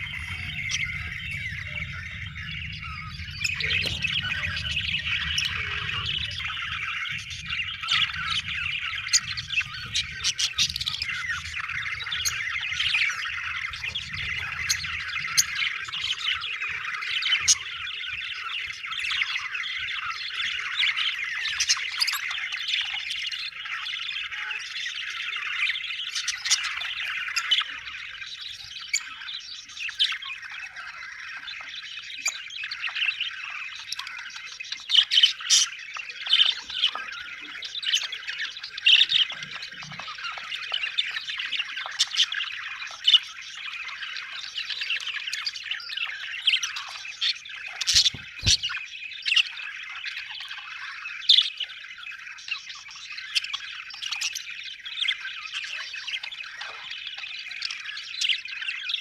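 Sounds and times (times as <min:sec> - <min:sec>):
flock of budgerigars chattering: 0:00.0 - 0:59.0.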